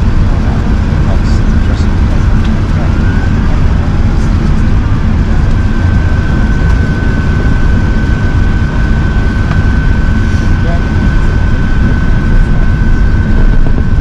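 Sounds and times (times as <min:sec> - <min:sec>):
aircraft engines and airflow rumble: 0:00.0 - 0:14.0
thin high whine: 0:00.0 - 0:14.0.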